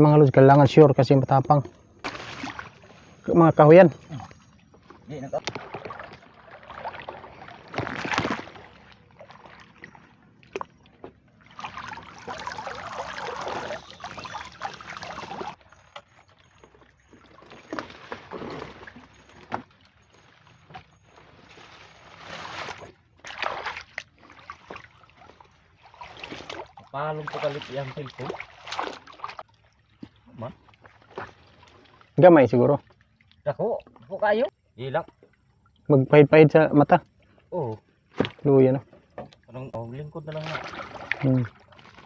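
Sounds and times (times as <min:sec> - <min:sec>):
water splashing against boat: 0:01.4 - 0:34.3, 0:37.1 - 0:42.0.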